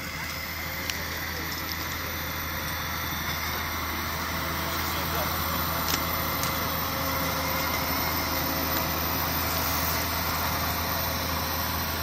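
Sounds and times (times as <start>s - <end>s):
diesel engine low hum: 0.0s - 12.0s.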